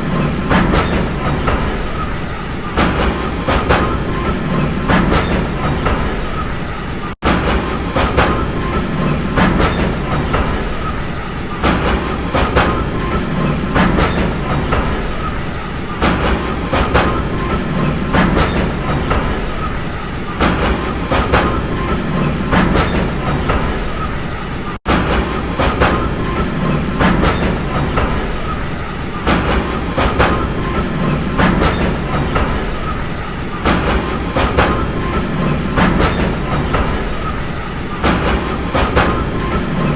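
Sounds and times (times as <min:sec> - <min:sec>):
train rumbling on track: 0:00.0 - 0:39.9
wheels clacking over rail joints: 0:00.0 - 0:39.9.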